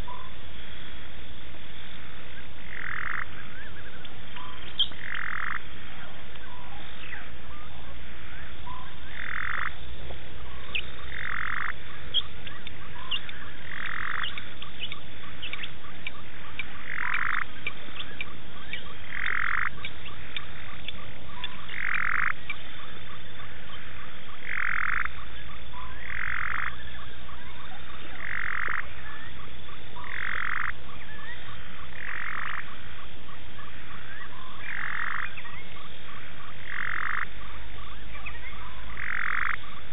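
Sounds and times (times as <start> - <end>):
frog calling: 1.8 - 39.9.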